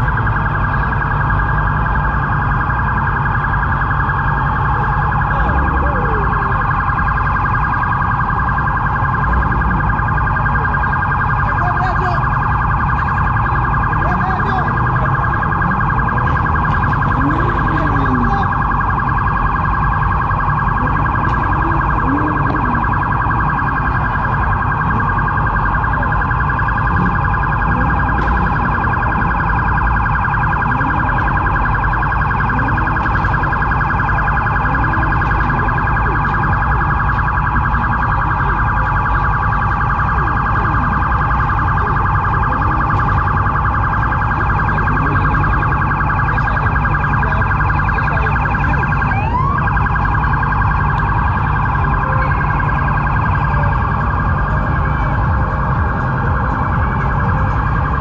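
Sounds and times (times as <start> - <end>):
car engine deep rumble: 0.0 - 58.0.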